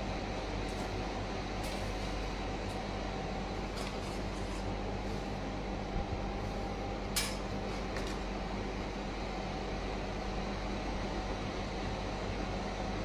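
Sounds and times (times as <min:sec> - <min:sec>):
low electrical drone: 0:00.0 - 0:13.0
room hum and hiss: 0:00.0 - 0:13.0.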